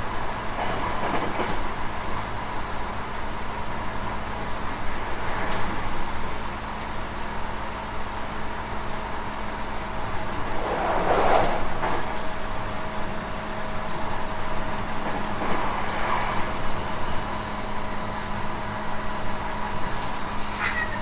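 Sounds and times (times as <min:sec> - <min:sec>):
steady train hum: 0:00.0 - 0:21.0
train wheels rumbling on rail: 0:00.0 - 0:21.0.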